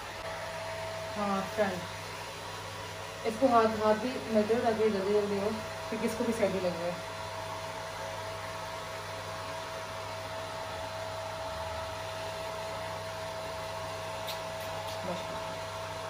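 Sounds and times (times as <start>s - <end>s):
hair dryer whining: 0.0s - 16.0s.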